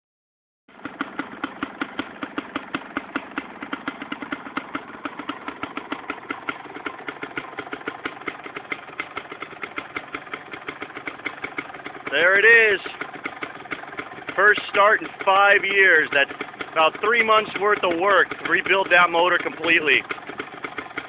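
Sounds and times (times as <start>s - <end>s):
two-stroke engine idling: 0.7s - 21.0s.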